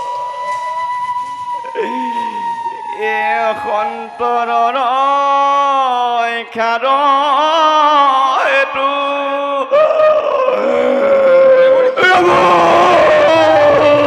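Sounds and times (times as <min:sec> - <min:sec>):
man singing in chant style: 0:01.6 - 0:14.0.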